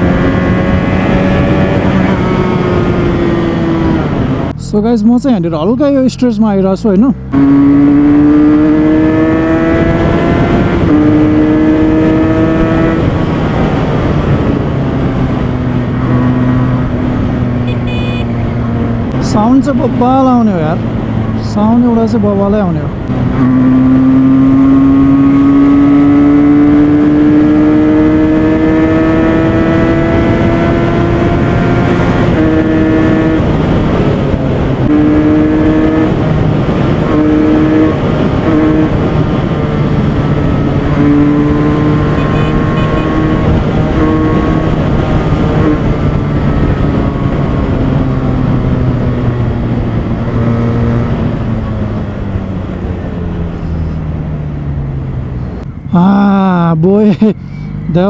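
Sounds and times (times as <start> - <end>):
motorcycle engine at high revs: 0.0 - 4.5, 7.0 - 55.8.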